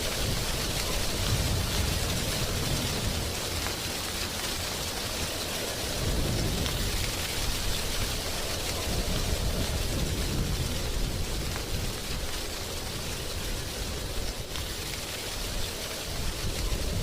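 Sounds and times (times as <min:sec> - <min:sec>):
gusty low wind rumble: 0:00.0 - 0:03.8, 0:04.6 - 0:17.0
wind rustling dry leaves: 0:00.0 - 0:17.0.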